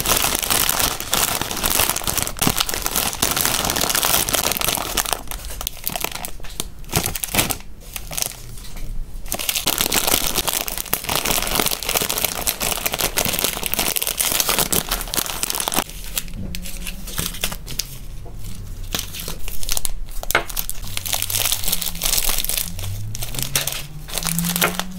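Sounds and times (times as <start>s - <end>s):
plastic bags crinkling: 0.0s - 24.9s.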